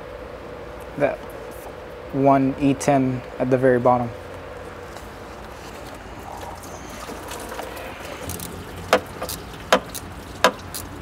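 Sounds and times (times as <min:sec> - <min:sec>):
low shop hum: 0:00.0 - 0:11.0.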